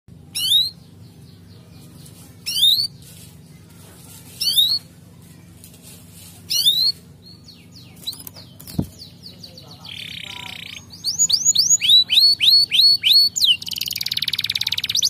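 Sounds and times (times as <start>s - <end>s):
canary singing: 0.1s - 5.1s, 6.4s - 15.0s
low steady hum: 0.1s - 15.0s.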